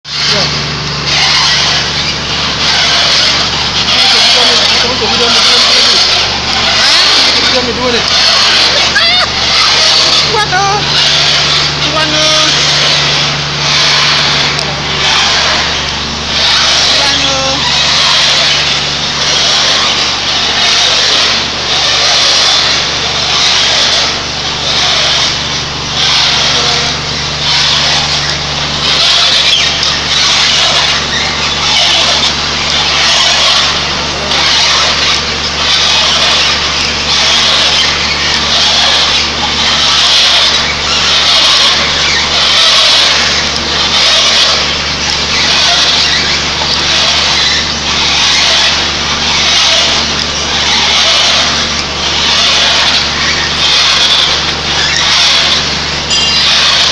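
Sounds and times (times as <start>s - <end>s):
low motor hum: 0.0s - 56.9s
harsh grinding from screw barrel: 0.1s - 56.9s.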